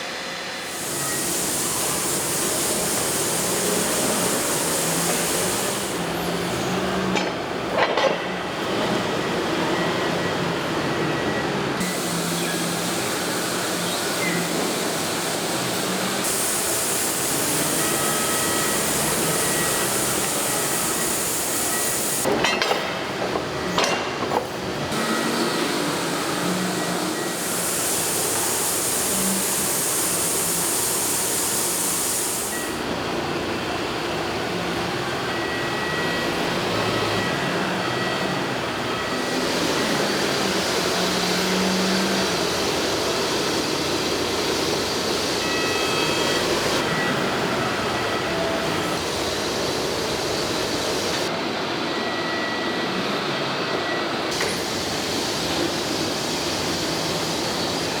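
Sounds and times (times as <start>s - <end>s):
industrial machinery noise: 0.0s - 58.0s.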